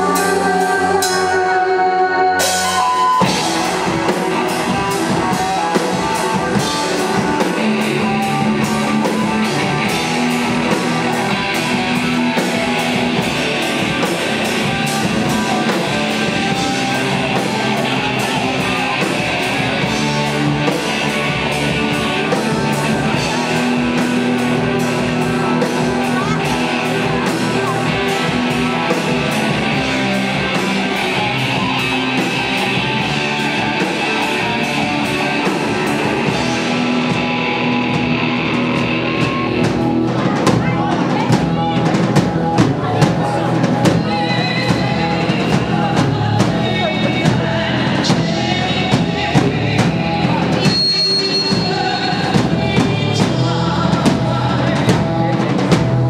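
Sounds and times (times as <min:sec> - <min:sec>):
distorted electric guitars: 0:00.0 - 0:56.0
drum beat: 0:02.6 - 0:50.8.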